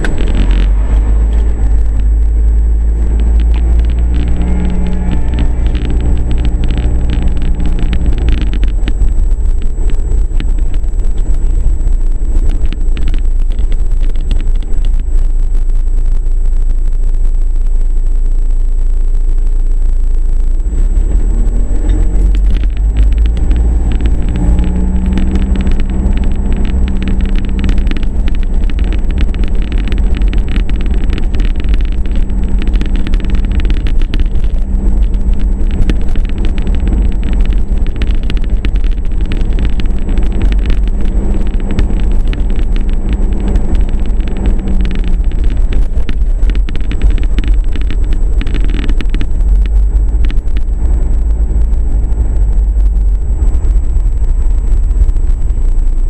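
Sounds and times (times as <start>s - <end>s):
car engine: 0.0s - 56.0s
road rumble inside car: 0.0s - 56.0s.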